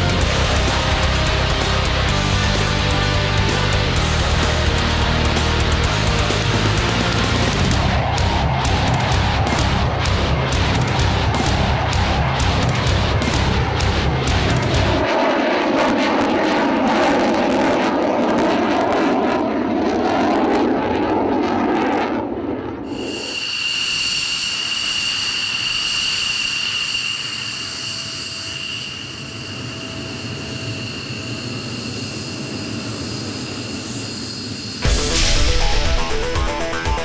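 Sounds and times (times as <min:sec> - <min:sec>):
jet engine high-pitched whine: 0:00.0 - 0:37.0
jet engine roaring in flight: 0:00.0 - 0:37.0.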